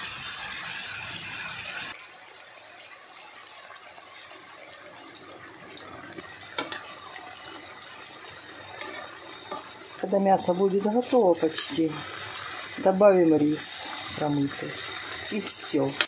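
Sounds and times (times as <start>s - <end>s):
food sizzling in a frying pan: 0.0s - 16.0s
water pouring into a pan: 0.0s - 16.0s.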